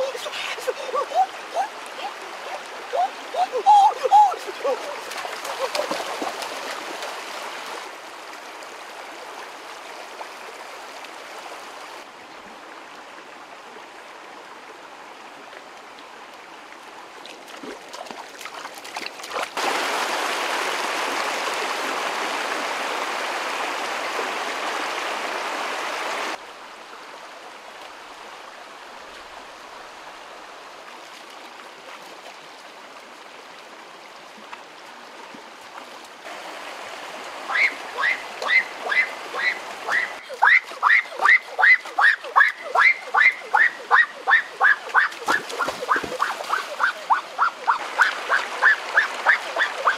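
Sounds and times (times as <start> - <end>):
stream running over stones: 0.0 - 49.9.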